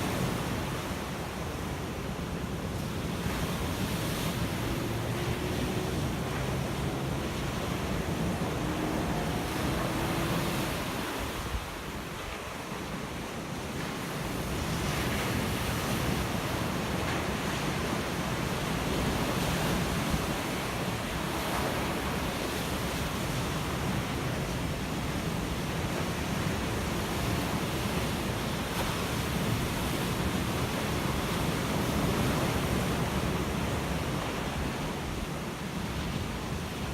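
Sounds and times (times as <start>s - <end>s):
ocean waves breaking: 0.0s - 36.9s.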